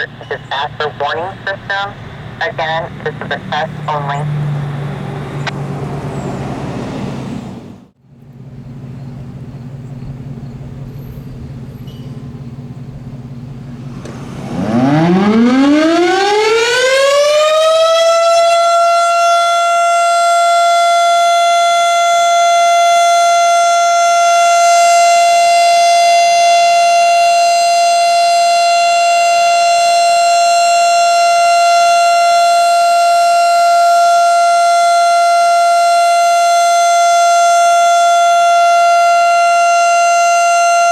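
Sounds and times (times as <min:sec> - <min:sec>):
outdoor warning siren: 0:00.0 - 0:40.9.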